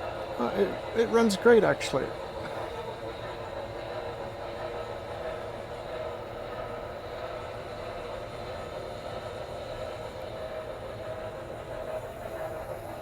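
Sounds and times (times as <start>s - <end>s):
model train running sound: 0.0s - 13.0s.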